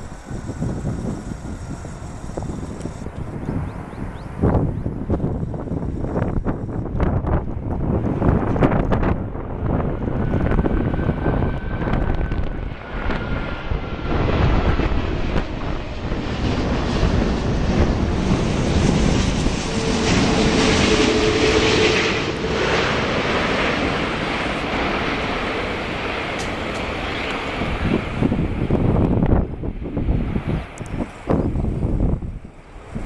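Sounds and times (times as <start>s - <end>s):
jet engine rush with whine: 0.0s - 33.0s
wind buffeting microphone: 0.0s - 33.0s.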